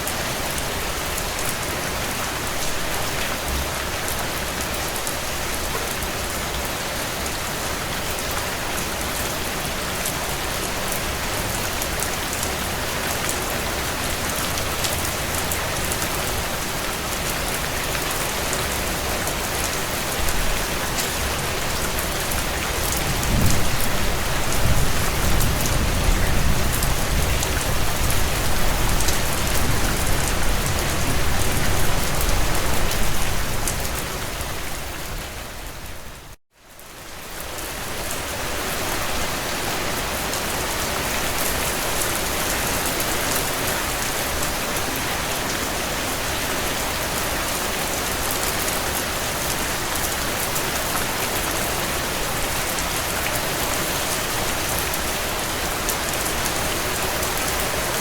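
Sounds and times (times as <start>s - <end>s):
rain drumming on a tin roof: 0.0s - 58.0s.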